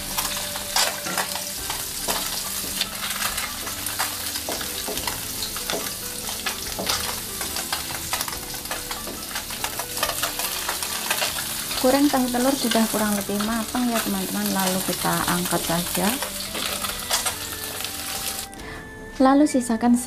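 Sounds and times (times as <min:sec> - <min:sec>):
tofu sizzling in hot oil: 0:00.0 - 0:18.5
wooden spatula scraping wok: 0:00.0 - 0:18.5.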